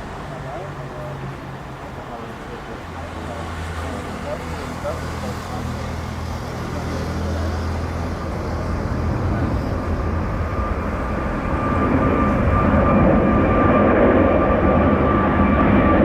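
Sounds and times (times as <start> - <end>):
jet engine whine: 0.0 - 16.0
jet engines rumbling: 0.0 - 16.0.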